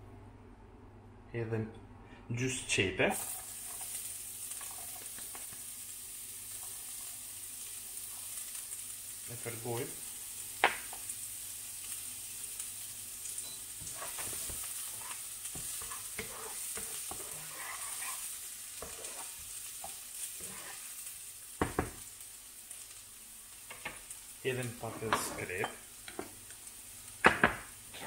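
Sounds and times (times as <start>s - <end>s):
onion sizzling in oil: 2.7s - 28.0s.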